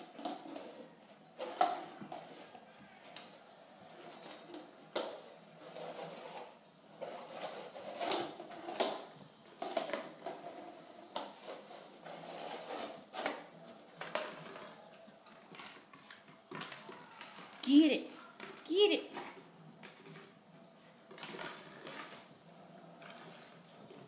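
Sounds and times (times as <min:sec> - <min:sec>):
plastic bowl scraping on tile: 0:00.0 - 0:24.0.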